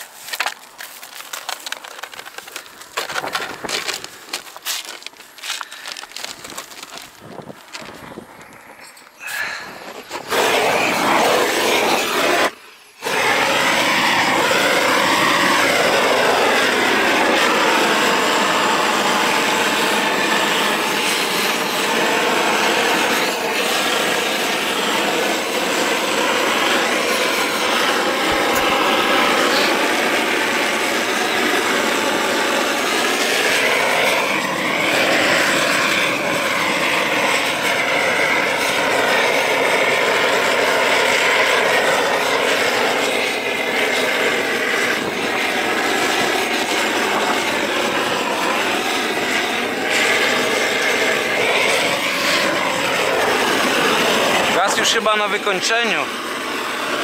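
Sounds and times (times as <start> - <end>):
gas torch flame roaring: 0.0 - 57.0.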